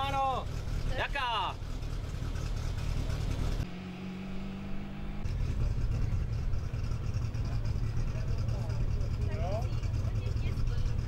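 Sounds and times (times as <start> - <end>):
rally car engine idling: 0.0 - 3.7, 5.2 - 11.0.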